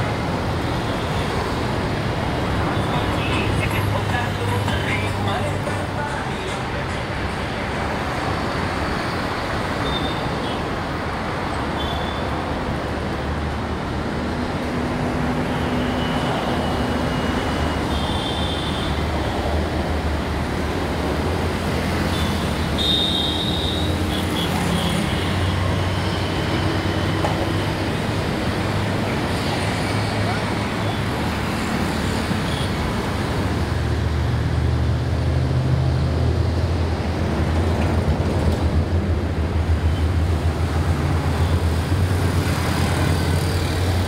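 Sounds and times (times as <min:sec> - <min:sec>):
road traffic engines: 0:00.0 - 0:44.0.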